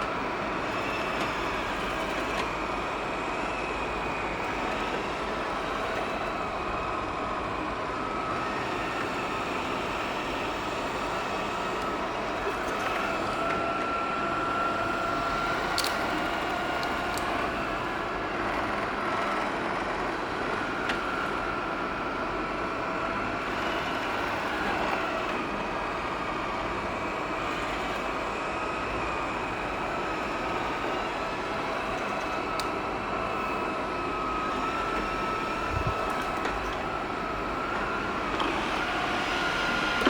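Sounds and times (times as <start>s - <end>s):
robot vacuum suction fan: 0.0s - 40.0s.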